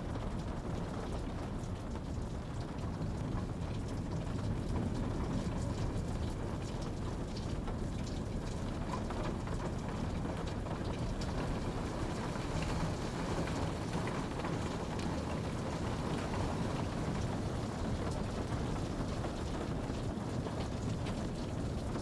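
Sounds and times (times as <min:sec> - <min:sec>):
raindrops pattering on surfaces: 0:00.0 - 0:22.0
steady rain hiss: 0:00.1 - 0:22.0.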